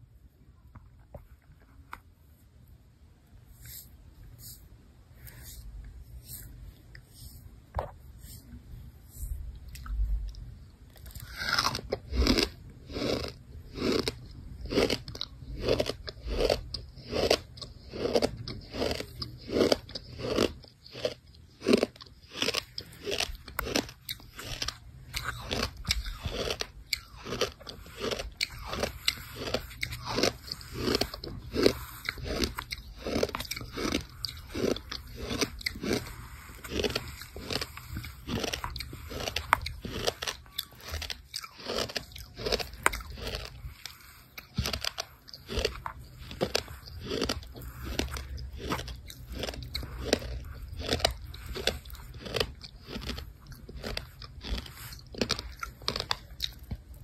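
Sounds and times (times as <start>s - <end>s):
crunchy chewing: 9.6s - 57.0s.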